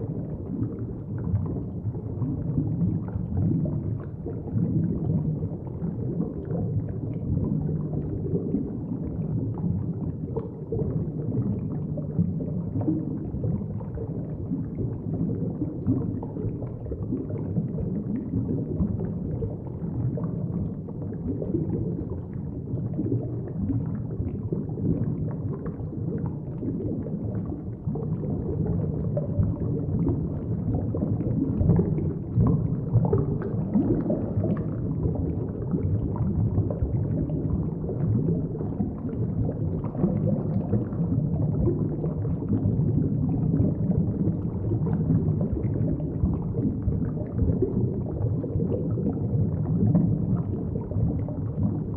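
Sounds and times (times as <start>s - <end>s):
underwater rumble and gurgle: 0.0s - 51.9s.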